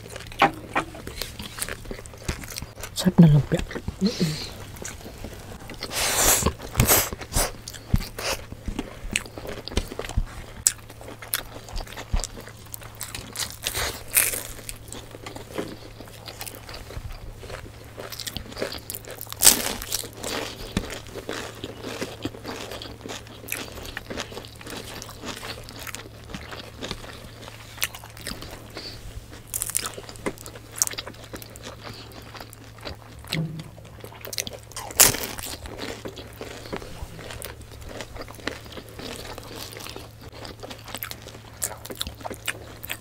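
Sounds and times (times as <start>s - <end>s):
crunching and chewing food: 0.0s - 43.0s
faint low hum: 0.0s - 43.0s.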